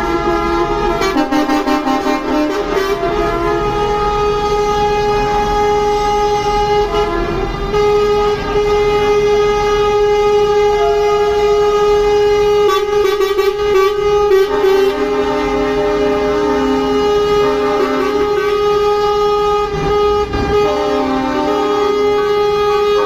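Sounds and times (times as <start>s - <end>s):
truck air horns blowing: 0.0s - 23.0s.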